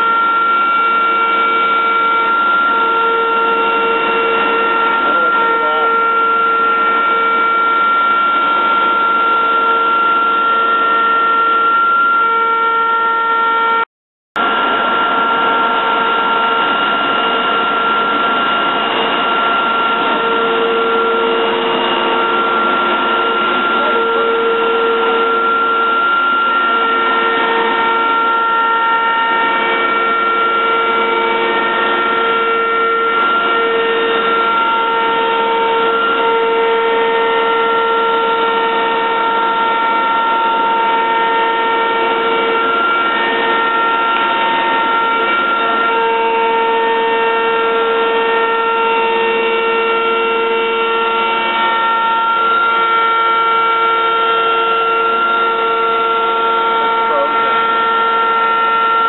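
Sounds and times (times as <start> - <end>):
router spindle whining: 0.0 - 13.8, 14.4 - 59.0.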